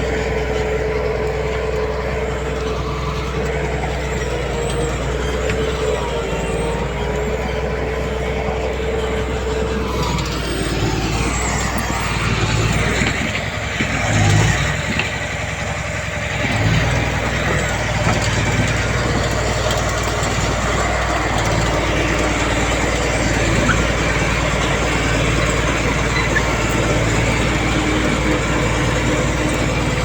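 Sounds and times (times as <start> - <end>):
diesel machinery running: 0.0 - 30.0.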